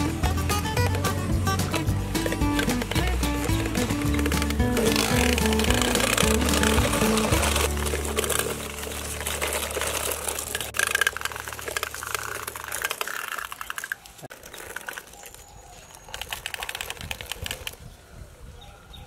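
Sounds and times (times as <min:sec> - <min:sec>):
toy trucks rattling on paving stones: 0:00.0 - 0:17.9.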